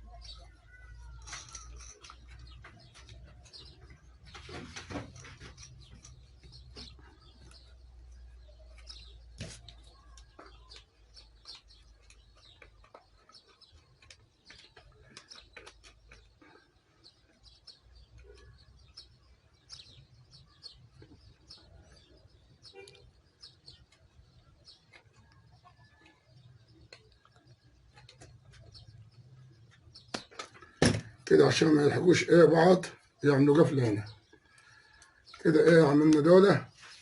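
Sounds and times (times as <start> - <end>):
faint small birds chirping: 0.0 - 37.0.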